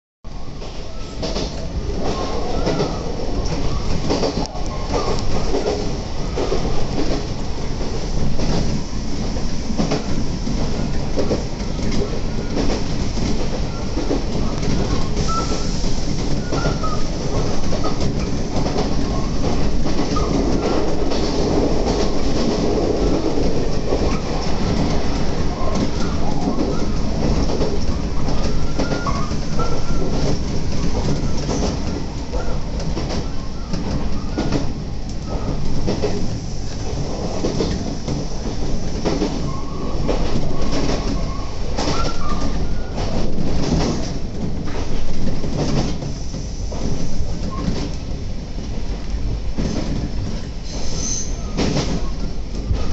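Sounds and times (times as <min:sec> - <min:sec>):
train wheels rumbling on rail: 0:00.3 - 0:52.9.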